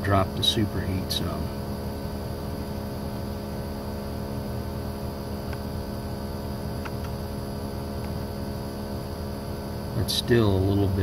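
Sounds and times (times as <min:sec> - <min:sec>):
air conditioner compressor hum: 0:00.0 - 0:11.0.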